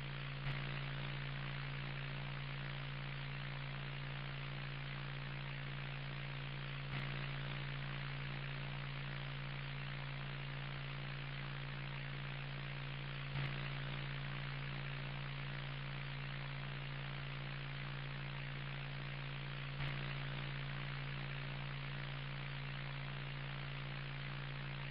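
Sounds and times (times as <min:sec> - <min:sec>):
low electrical buzz: 0:00.0 - 0:24.9
static hiss: 0:00.0 - 0:24.9.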